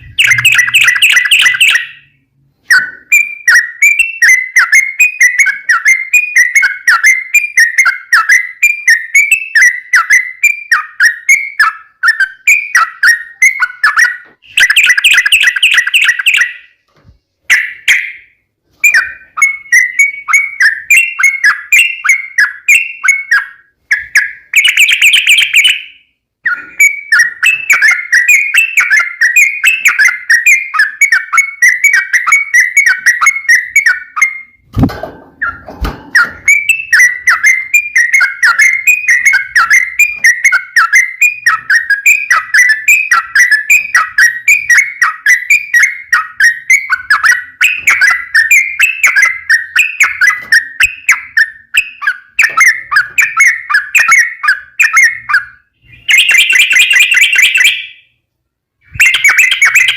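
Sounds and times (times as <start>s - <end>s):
bird chirping and trilling: 0.0s - 59.9s.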